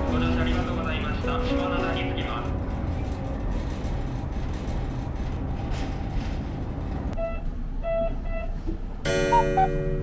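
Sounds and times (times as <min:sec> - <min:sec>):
railcar wheels and engine rumble: 0:00.0 - 0:10.0.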